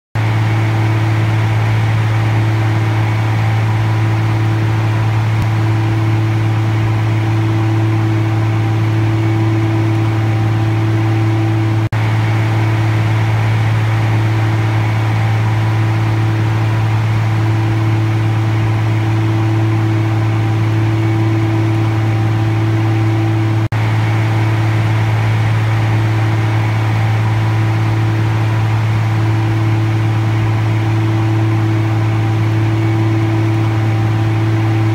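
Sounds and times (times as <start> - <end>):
tractor and digger mechanical drone: 0.2 - 34.9.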